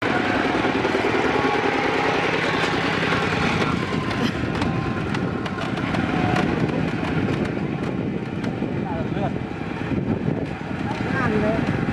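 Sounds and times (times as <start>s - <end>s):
small cart engine chugging: 0.0s - 11.9s.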